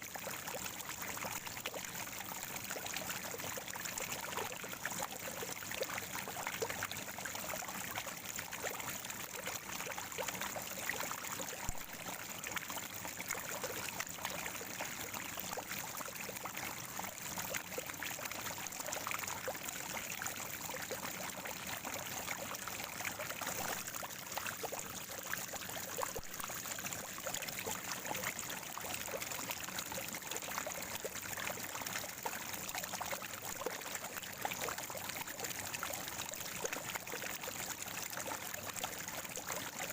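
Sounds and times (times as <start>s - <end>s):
spring water gurgling: 0.0s - 39.9s.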